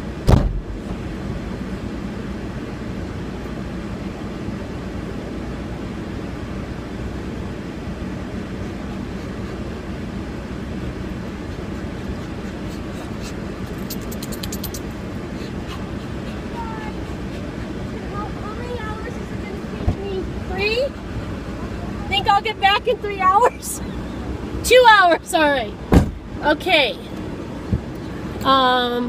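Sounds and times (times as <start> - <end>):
air conditioning running: 0.0 - 29.0
car engine idling: 0.0 - 29.0.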